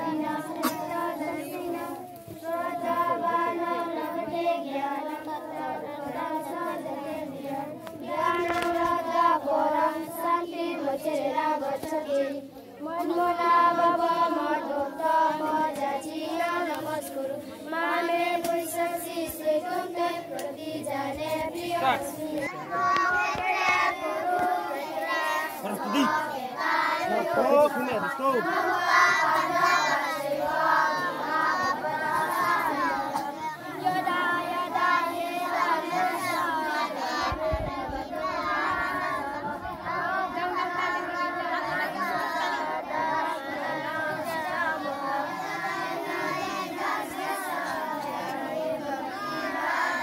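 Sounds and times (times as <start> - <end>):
children chanting in unison: 0.0 - 50.0.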